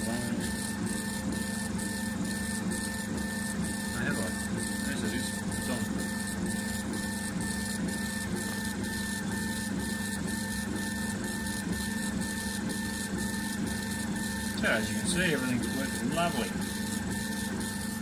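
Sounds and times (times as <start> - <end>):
extractor fan hum: 0.0 - 18.0
stepper motors whirring: 0.0 - 18.0.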